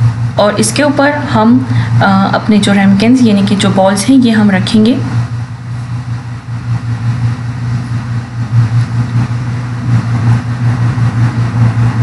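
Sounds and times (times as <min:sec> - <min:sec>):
low pulsing mechanical hum: 0:00.0 - 0:12.0.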